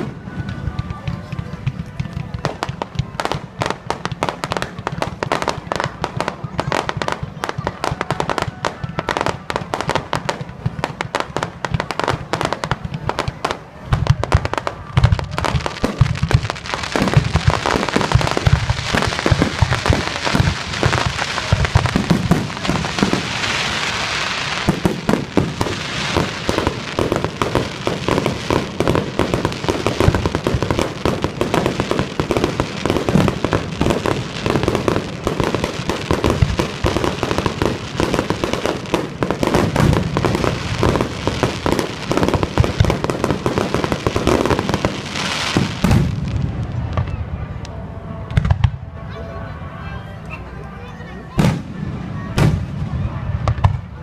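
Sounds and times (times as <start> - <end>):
fireworks booming: 0.0 - 49.0, 51.3 - 54.0
fireworks crackling: 0.0 - 54.0.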